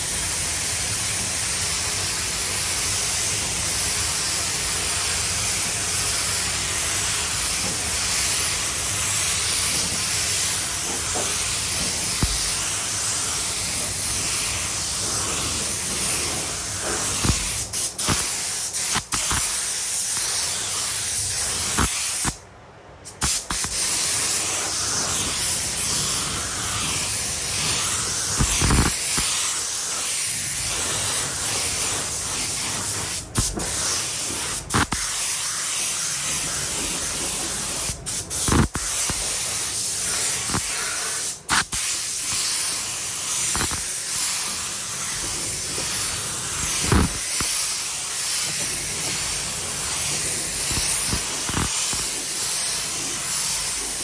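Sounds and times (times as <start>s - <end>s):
paint spray gun hissing: 0.0s - 22.4s, 23.2s - 54.0s.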